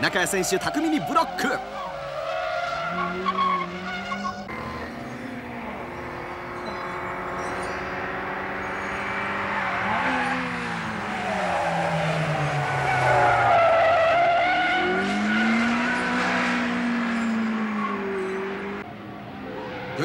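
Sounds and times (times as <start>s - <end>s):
car engines racing: 0.0s - 20.0s.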